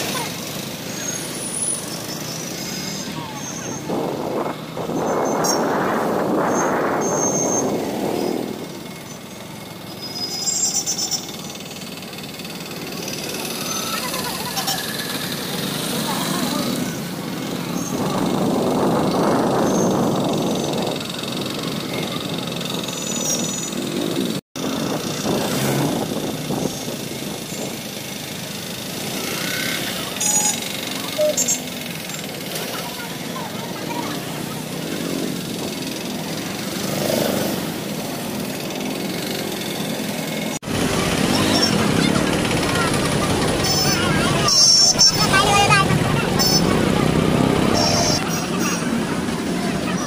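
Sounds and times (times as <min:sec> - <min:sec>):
motorcycle engine running: 0:00.0 - 0:50.0
wind and road noise: 0:00.0 - 0:50.0.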